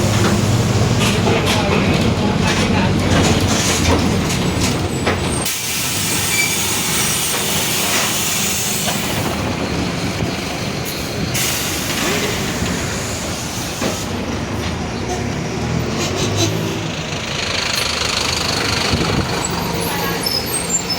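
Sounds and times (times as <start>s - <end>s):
bus engine and road noise: 0.0s - 20.9s.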